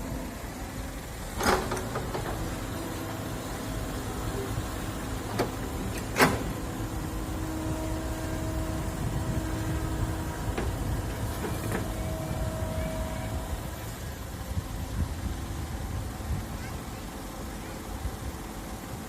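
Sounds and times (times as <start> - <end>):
excavator engine rumble: 0.0 - 19.0.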